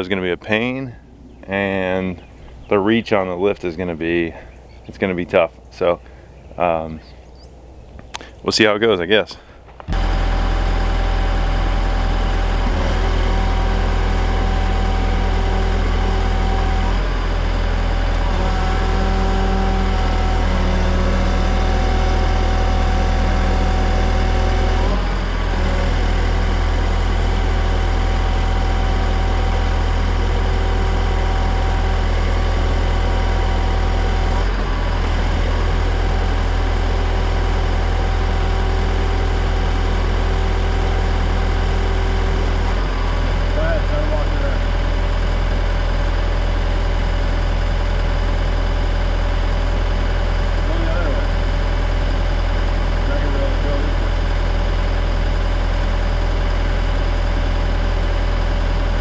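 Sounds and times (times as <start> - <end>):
lift engine running: 0.0 - 59.0.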